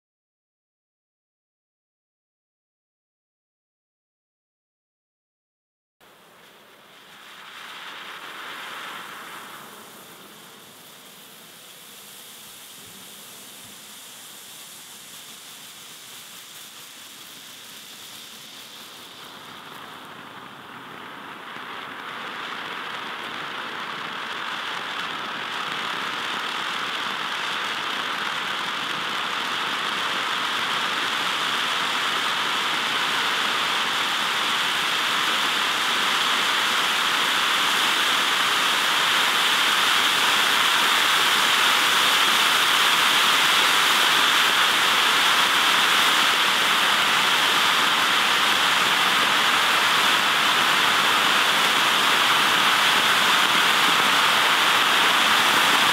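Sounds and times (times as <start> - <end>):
firework fountain hissing: 6.0 - 55.9.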